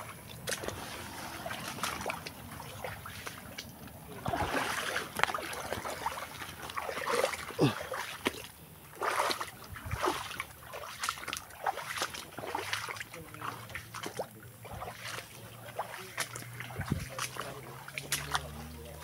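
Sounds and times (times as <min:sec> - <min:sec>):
footsteps splashing in stream water: 0:00.0 - 0:19.0.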